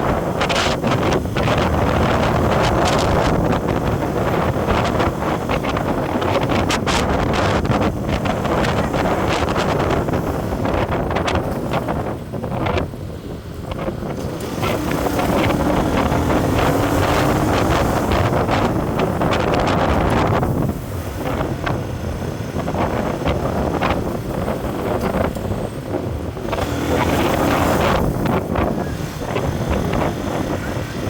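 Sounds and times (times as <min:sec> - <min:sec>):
road vehicle driving: 0:00.0 - 0:31.0
wind buffeting microphone: 0:00.0 - 0:31.0.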